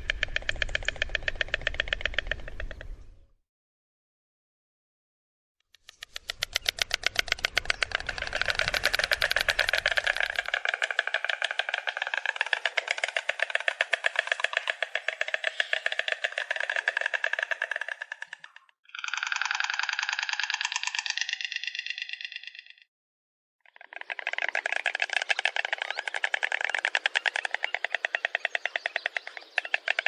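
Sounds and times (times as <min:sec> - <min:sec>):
stork clattering its bill: 0:00.0 - 0:02.9, 0:05.8 - 0:21.6, 0:23.8 - 0:30.0.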